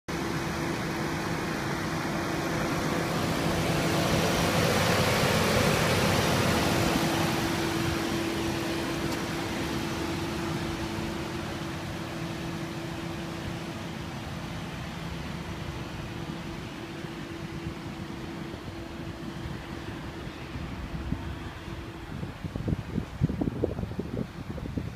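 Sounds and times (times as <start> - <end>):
car engine idling: 0.1 - 24.9.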